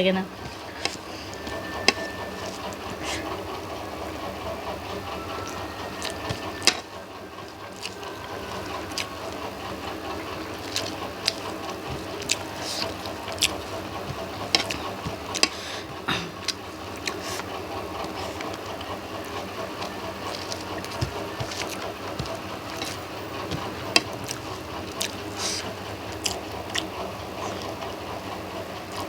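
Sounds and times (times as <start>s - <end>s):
electric fan humming: 0.0s - 29.0s
chewing and mouth noises: 4.3s - 29.0s.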